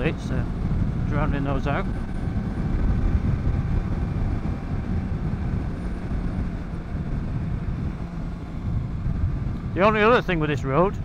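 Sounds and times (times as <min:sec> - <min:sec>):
fluttering wind rumble: 0:00.0 - 0:11.0
motorcycle engine running: 0:00.0 - 0:11.0.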